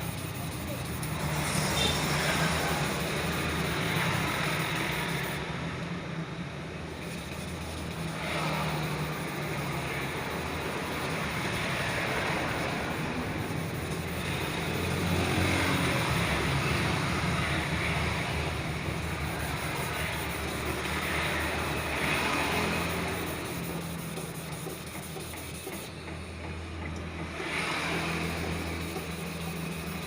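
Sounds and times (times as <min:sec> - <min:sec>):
sanding plastic: 0:00.0 - 0:05.4, 0:06.9 - 0:26.4, 0:27.2 - 0:30.0.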